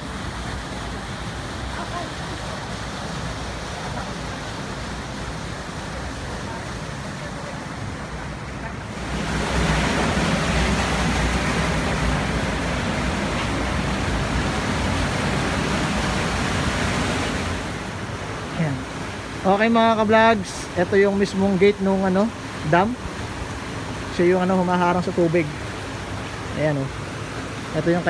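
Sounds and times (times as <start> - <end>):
water rushing through dam gates: 0.0 - 28.0.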